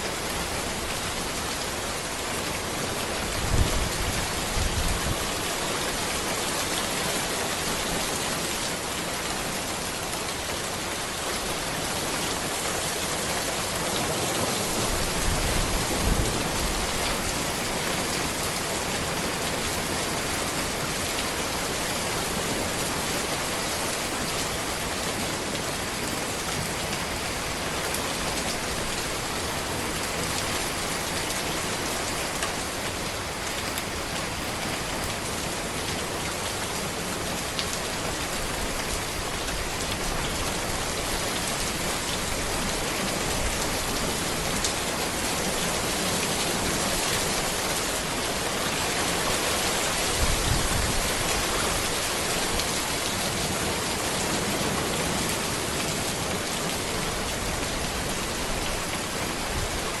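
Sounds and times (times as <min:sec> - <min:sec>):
rain falling on road and trees: 0:00.0 - 1:00.0.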